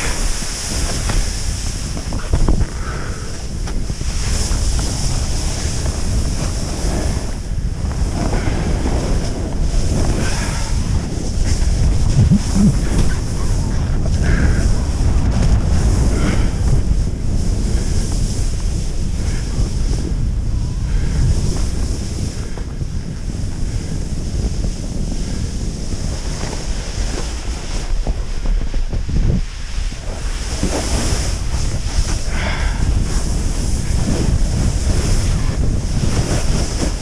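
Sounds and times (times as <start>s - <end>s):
skis sliding on snow: 0.0s - 37.0s
wind buffeting microphone: 0.0s - 37.0s.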